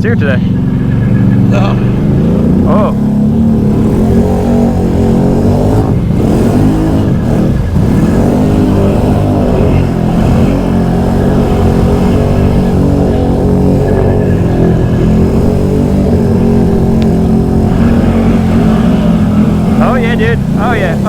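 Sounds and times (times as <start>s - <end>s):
churning through mud and water: 0.0s - 21.0s
engine revving under load: 0.0s - 21.0s.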